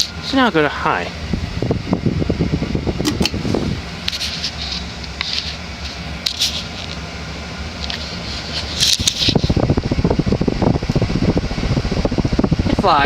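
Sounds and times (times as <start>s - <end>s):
ceiling fan motor hum: 0.0s - 13.0s
fan blade swishes: 0.0s - 13.0s.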